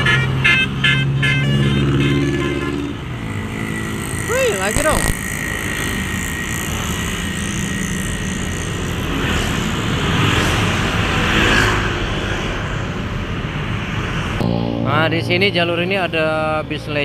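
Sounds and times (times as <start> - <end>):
motorcycles and cars running: 0.0 - 15.0.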